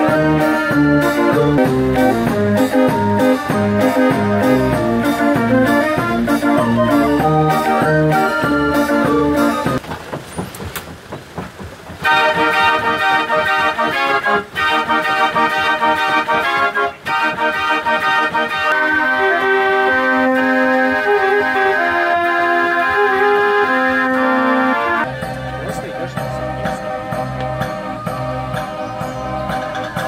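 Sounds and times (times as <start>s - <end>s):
mechanical organ playing tune: 0.0s - 9.8s, 12.0s - 30.0s.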